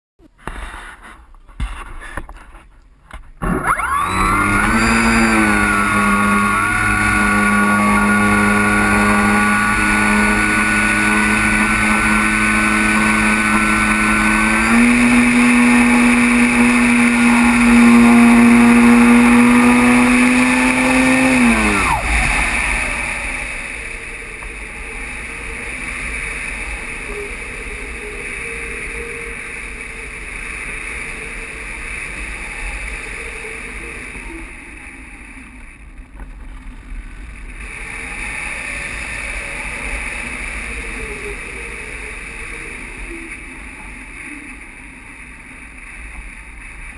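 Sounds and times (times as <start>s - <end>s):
electric motor and propeller whirring: 3.4s - 46.9s.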